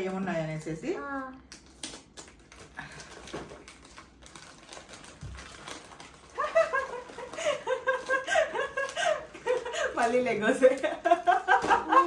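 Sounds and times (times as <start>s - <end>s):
wrapping paper crinkling and tearing: 0.5s - 11.5s.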